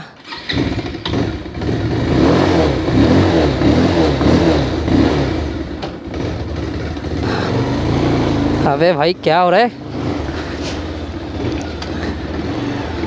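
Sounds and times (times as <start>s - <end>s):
motorcycle engine revving: 0.2s - 13.0s.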